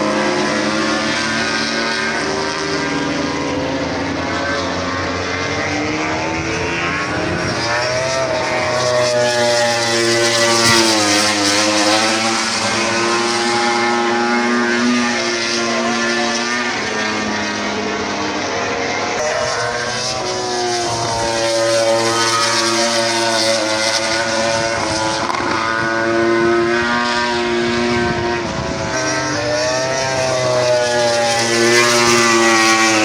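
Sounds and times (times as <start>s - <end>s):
engines running together: 0.0s - 33.0s.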